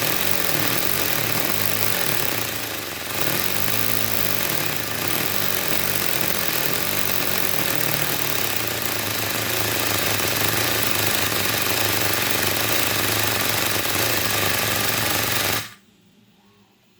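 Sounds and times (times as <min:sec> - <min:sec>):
air engine hissing and chugging: 0:00.0 - 0:15.8.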